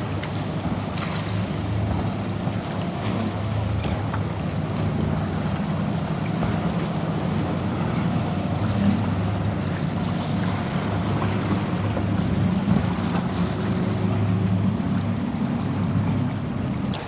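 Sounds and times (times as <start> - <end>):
motorboat engines running: 0.0 - 17.0
waves washing: 0.0 - 17.0.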